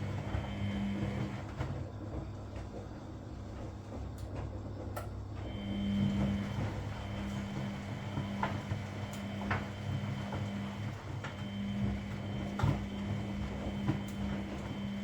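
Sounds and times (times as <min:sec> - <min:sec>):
washing machine drum motor humming: 0:00.0 - 0:15.0.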